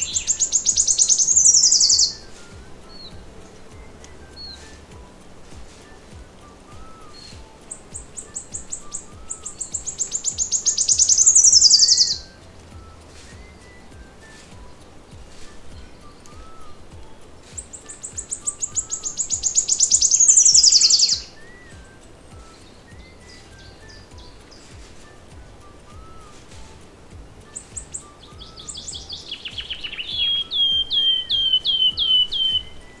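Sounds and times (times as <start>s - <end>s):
faint background music: 0.0s - 33.0s
nightingale song: 0.0s - 33.0s.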